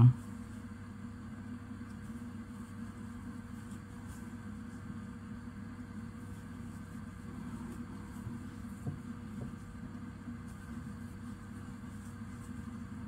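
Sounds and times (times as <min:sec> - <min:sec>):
faint constant tone: 0:00.0 - 0:13.0
low electrical hum: 0:00.0 - 0:13.0.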